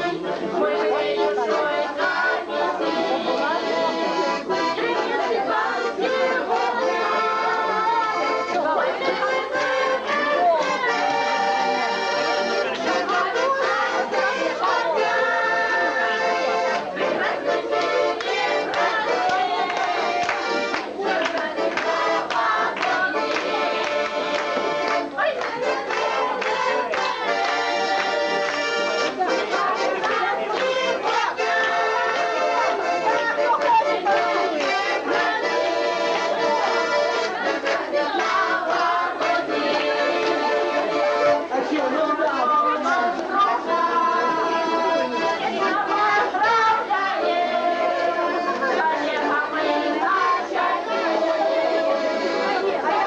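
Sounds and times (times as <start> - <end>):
accordion: 0.0 - 53.0
group of voices singing: 0.0 - 53.0.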